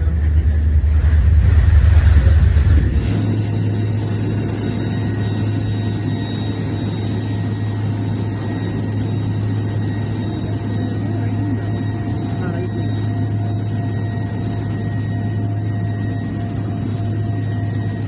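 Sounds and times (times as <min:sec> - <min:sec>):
engine running with low hum: 0:00.0 - 0:18.0
noisy rush: 0:00.0 - 0:18.0.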